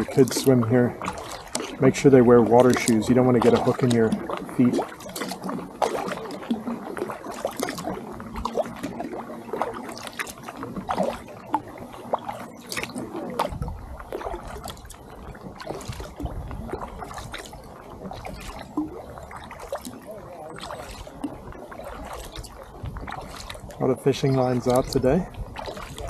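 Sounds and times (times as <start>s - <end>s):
paddle splashing in water: 0.0s - 26.0s
water dripping off paddle: 0.0s - 26.0s.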